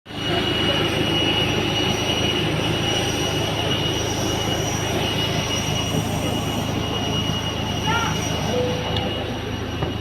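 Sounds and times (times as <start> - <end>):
high-pitched jet whine: 0.1 - 10.0
jet airliner rushing hum: 0.1 - 10.0.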